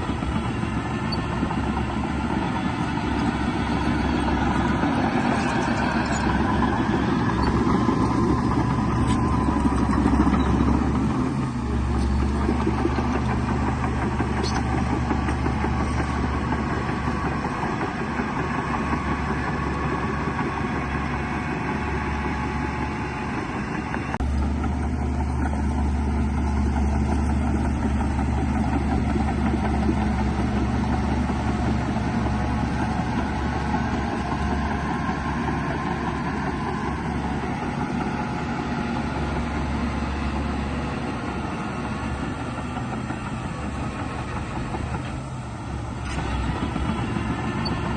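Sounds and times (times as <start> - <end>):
heavy diesel machinery drone: 0.0 - 47.9.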